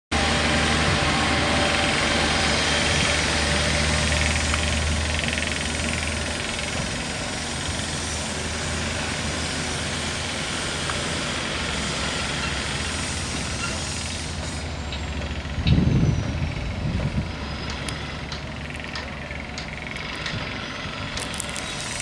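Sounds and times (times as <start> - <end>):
construction machinery working: 0.1 - 22.0.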